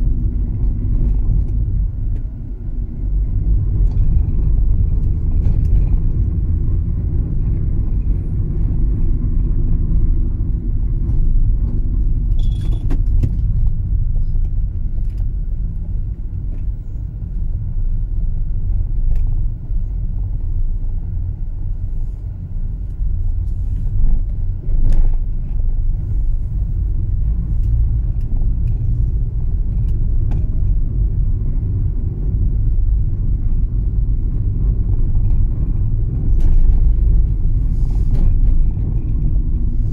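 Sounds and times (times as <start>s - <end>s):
car driving from inside: 0.0s - 39.9s.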